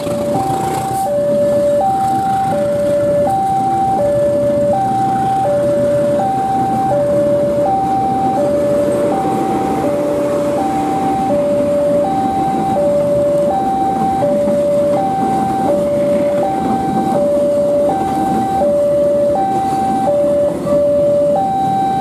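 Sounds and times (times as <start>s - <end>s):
train coaches rumbling past: 0.0s - 21.4s
two-tone crossing alarm: 0.0s - 22.0s.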